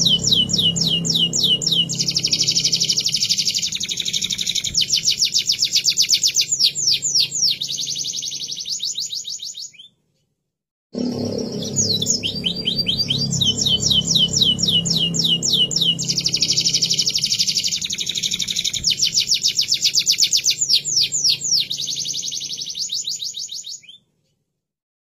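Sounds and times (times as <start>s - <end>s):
canary singing trilled rolls: 0.0s - 9.9s, 11.0s - 24.0s.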